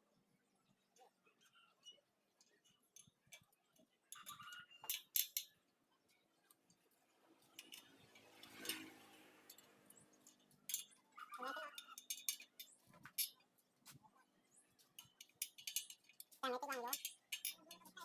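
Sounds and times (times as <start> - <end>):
metallic clinks and taps: 1.0 - 6.8, 7.4 - 14.0, 14.6 - 18.0.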